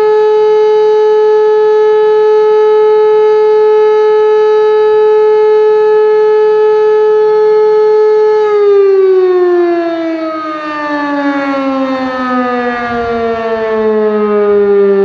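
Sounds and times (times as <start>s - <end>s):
civil defense siren steady tone: 0.0s - 15.0s.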